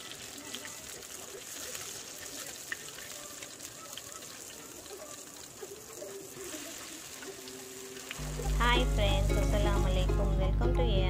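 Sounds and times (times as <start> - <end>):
fish sizzling in oil: 0.0 - 10.1.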